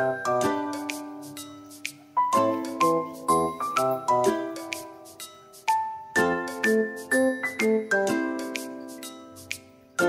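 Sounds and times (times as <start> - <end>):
light keyboard melody: 0.0 - 10.0.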